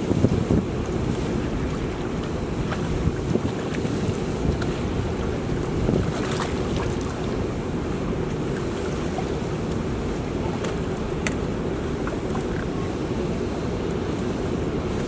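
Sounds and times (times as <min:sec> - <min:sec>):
water rushing through spillway: 0:00.0 - 0:15.0
wind rumbling on microphone: 0:00.0 - 0:15.0.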